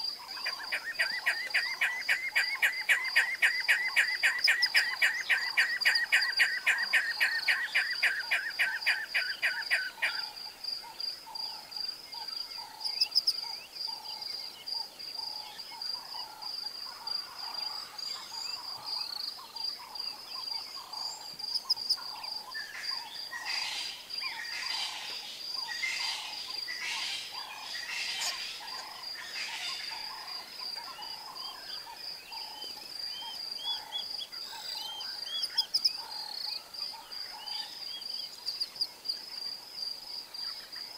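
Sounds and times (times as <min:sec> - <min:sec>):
bird calls: 0:00.0 - 0:38.6.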